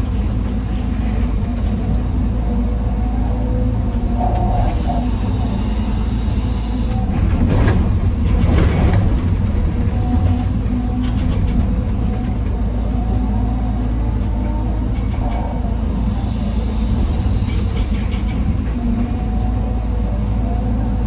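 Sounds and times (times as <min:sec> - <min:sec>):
diesel machinery droning: 0:00.0 - 0:21.0.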